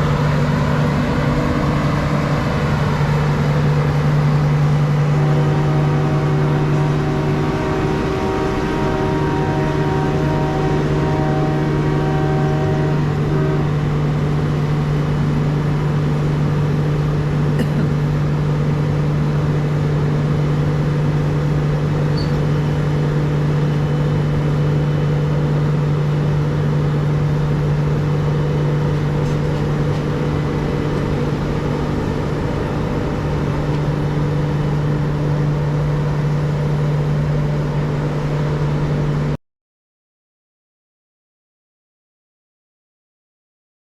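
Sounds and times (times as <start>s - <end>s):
diesel locomotive engine running: 0.0s - 39.3s.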